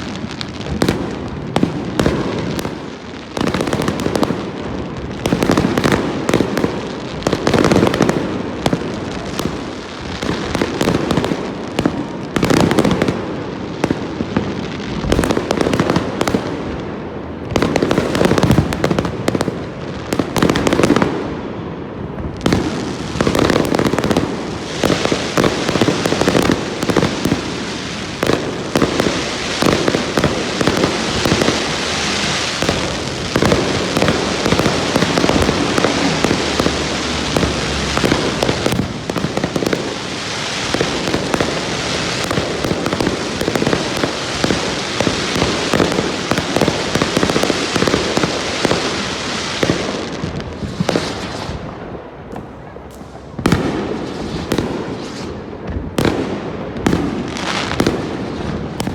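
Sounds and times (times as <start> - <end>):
dense steady hiss: 0.0 - 58.9
fireworks bursting: 0.0 - 58.9.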